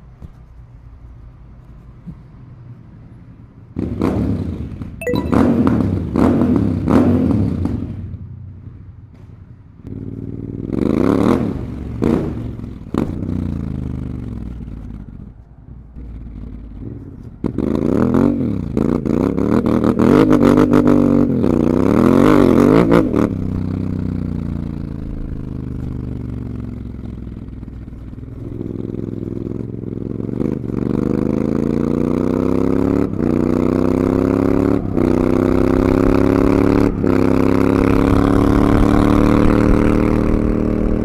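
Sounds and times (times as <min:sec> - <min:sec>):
motorcycle engine revving: 0:03.8 - 0:08.2, 0:09.9 - 0:15.1, 0:16.0 - 0:41.0.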